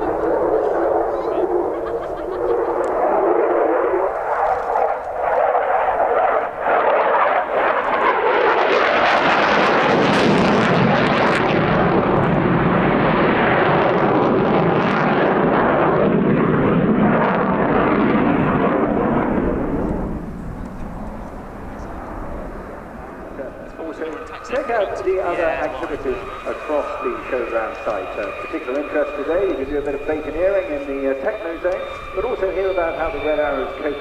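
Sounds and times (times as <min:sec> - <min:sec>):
airplane engine roar: 0:00.0 - 0:34.0.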